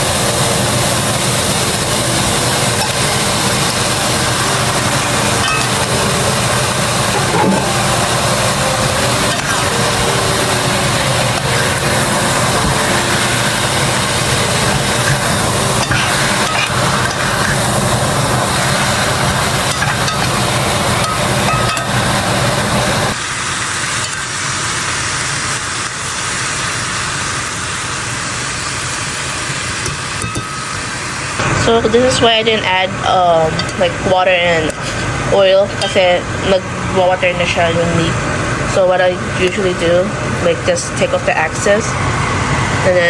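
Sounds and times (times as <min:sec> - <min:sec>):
meat sizzling in a pan: 0:00.0 - 0:40.5.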